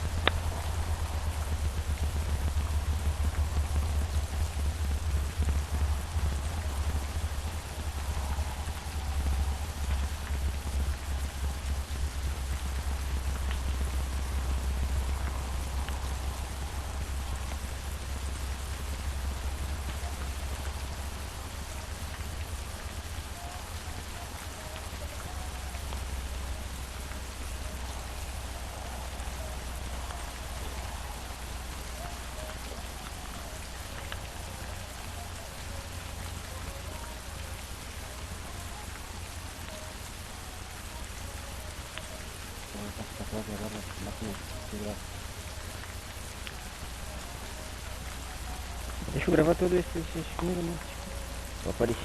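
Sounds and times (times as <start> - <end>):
constant low rumble: 0.0 - 52.0
steady rain falling: 0.0 - 52.0.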